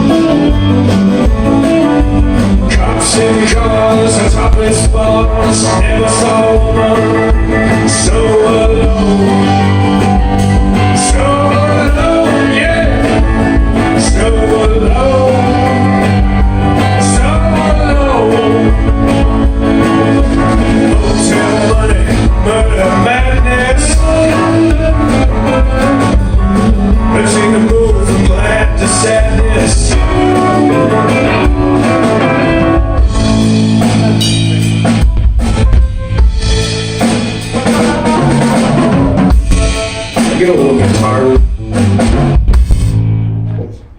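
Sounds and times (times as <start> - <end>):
rock band playing: 0.0 - 43.9
person singing: 1.6 - 33.0, 37.0 - 41.4.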